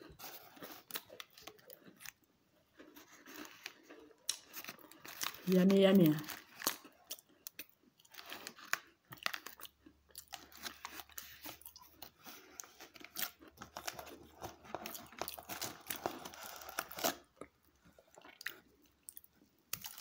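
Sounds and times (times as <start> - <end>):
cookies crunching while chewed: 0.0 - 20.0.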